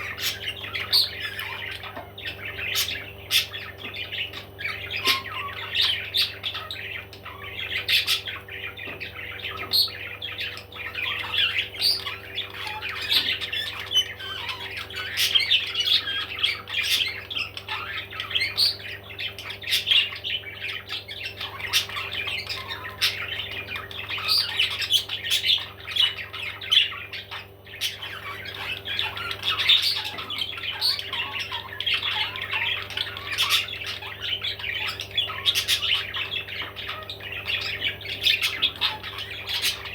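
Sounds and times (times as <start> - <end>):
parrots squawking and chattering: 0.0 - 39.9.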